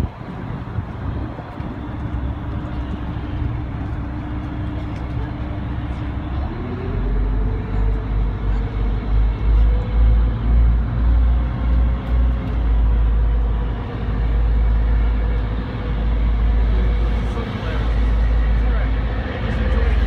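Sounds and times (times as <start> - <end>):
ferry engines running with whine: 0.0 - 20.0
wind buffeting microphone: 0.0 - 20.0.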